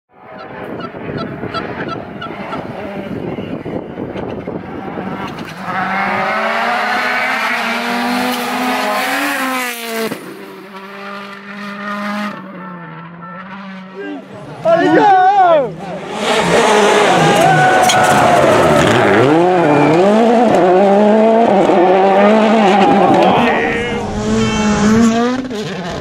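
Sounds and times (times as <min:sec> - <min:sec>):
rally car engine passing: 0:00.2 - 0:26.0.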